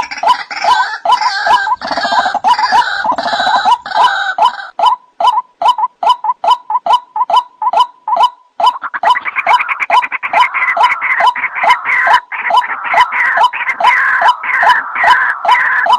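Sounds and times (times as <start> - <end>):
chattering bird calls: 0.0 - 15.9
waterhen calls: 0.0 - 15.9.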